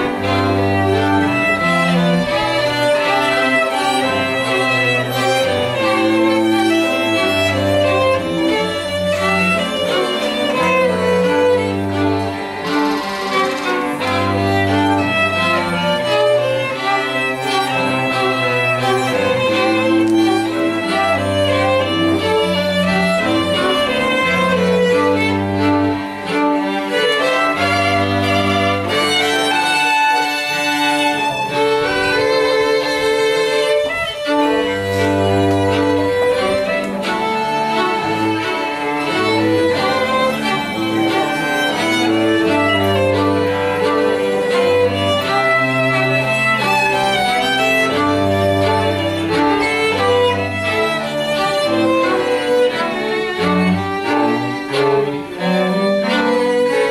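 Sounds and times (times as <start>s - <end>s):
cello low notes: 0.0s - 56.9s
string ensemble with harp: 0.0s - 56.9s.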